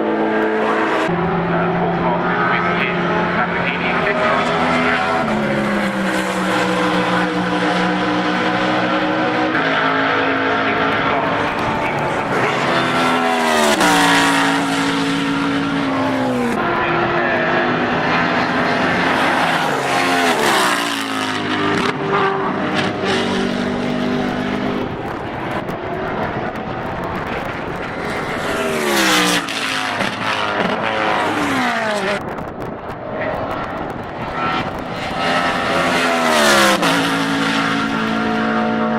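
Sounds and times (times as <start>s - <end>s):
race car engine at speed: 0.0s - 38.9s.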